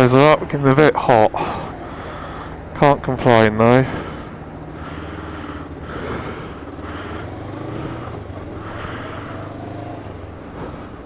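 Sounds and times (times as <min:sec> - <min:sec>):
motorcycle engine running: 0:01.4 - 0:11.0.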